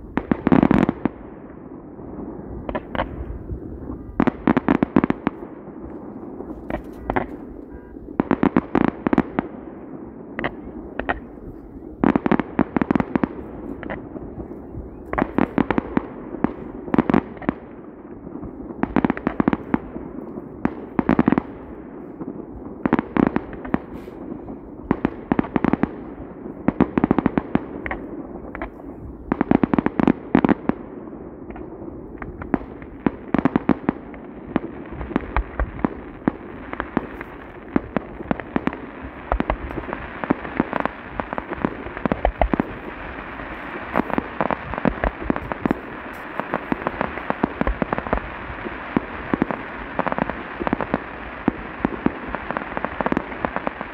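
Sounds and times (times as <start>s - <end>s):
fireworks bangs and pops: 0.0s - 1.7s, 2.6s - 53.9s
fireworks crackling: 0.0s - 53.9s.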